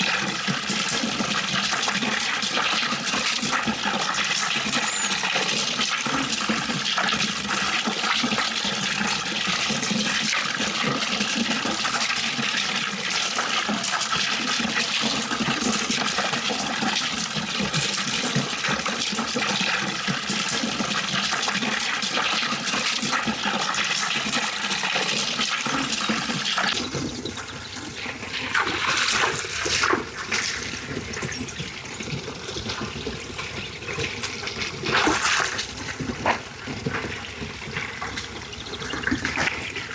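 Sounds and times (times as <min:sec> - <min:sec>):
water running: 0:00.0 - 0:39.9
water splashes: 0:00.0 - 0:39.9.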